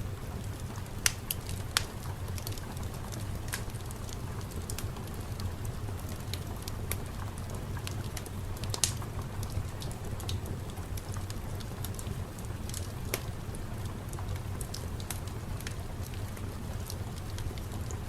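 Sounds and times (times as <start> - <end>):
low fire rumble: 0.0 - 18.0
fire crackling and popping: 0.1 - 18.0.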